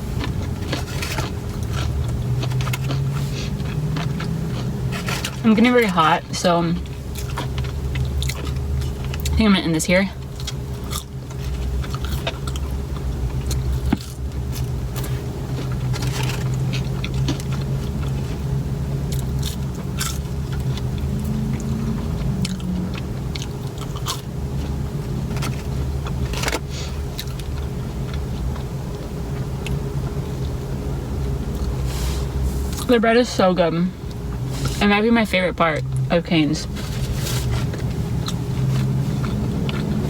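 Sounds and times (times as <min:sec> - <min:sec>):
chewing food with crunches: 0:00.0 - 0:09.4, 0:10.1 - 0:33.0, 0:35.6 - 0:40.0
car interior hum: 0:00.0 - 0:40.0.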